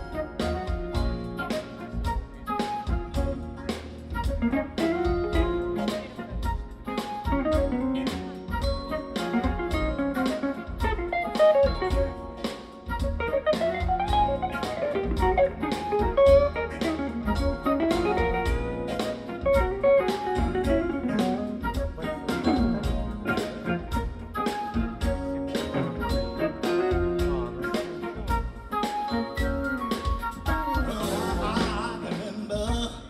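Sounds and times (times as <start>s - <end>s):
guitar melody: 0.0s - 31.6s
bass guitar: 0.0s - 33.0s
drum beat: 0.0s - 33.0s.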